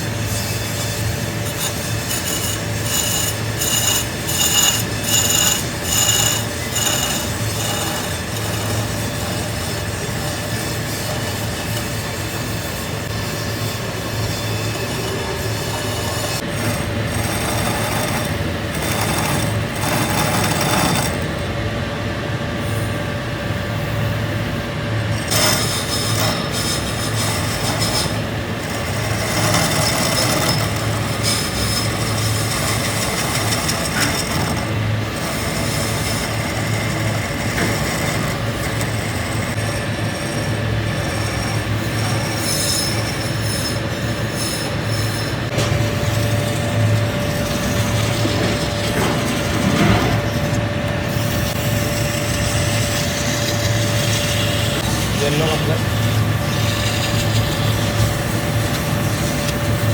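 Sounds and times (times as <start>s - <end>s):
metal scraping: 0.0s - 21.6s, 25.1s - 59.9s
workshop machinery humming: 0.0s - 59.9s.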